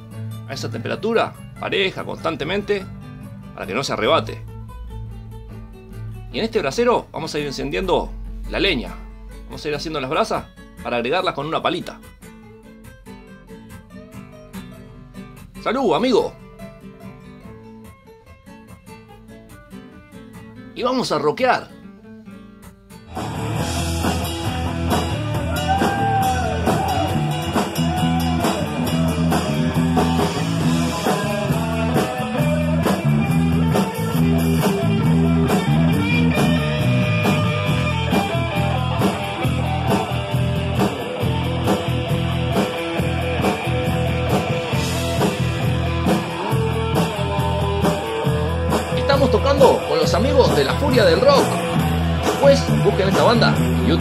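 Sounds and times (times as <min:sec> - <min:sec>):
drum kit: 0:01.7 - 0:14.8, 0:22.6 - 0:54.0
electric guitar lead bending notes: 0:02.2 - 0:15.6, 0:23.0 - 0:54.0.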